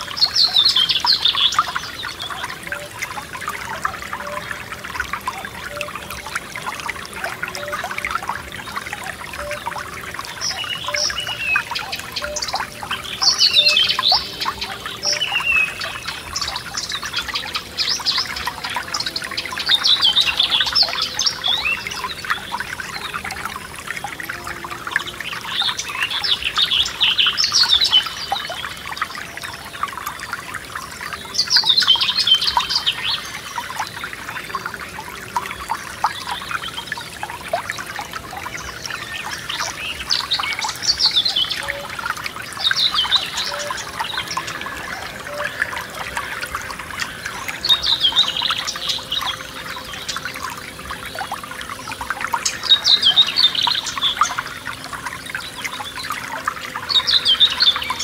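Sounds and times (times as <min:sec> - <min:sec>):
songbirds singing: 0:00.0 - 0:58.0
stream splashing over stones: 0:00.0 - 0:58.0.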